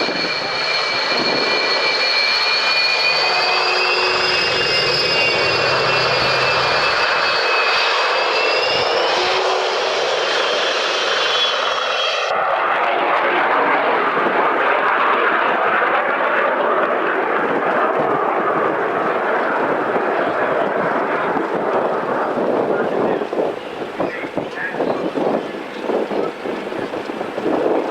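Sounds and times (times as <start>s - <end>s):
turbine engine roar: 0.0s - 27.9s
turbine engines whining: 0.0s - 27.9s.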